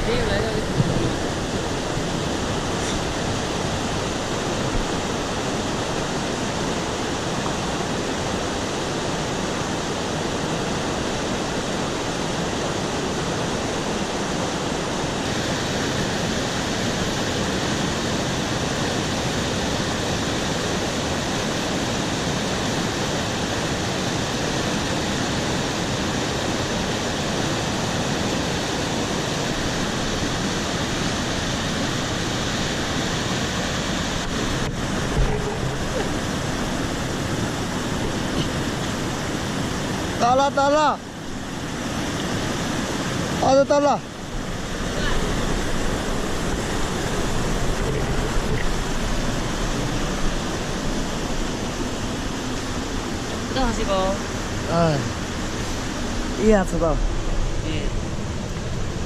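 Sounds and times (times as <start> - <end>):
stream rushing in flood: 0.0 - 59.0.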